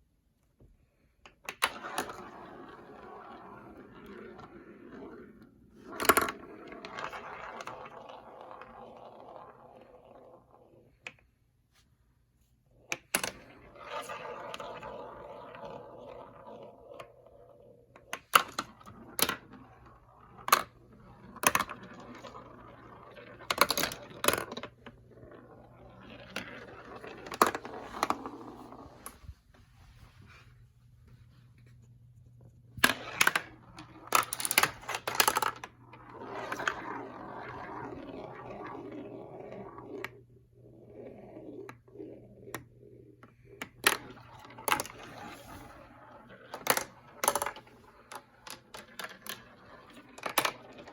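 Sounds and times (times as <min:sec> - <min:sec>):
marbles clacking on track pieces: 0:01.5 - 0:11.2, 0:12.9 - 0:28.6, 0:32.8 - 0:50.9
marbles rolling on plastic track: 0:01.5 - 0:11.2, 0:12.8 - 0:29.0, 0:32.8 - 0:50.9.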